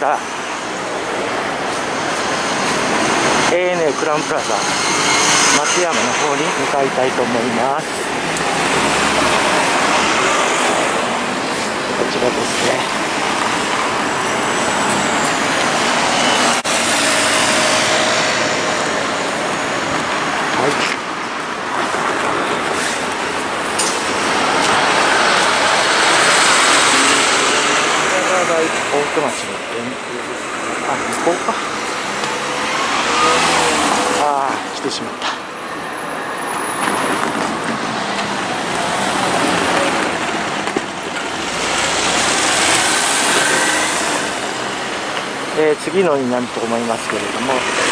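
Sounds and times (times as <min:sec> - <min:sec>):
cars passing over tram tracks: 0:00.0 - 0:47.9.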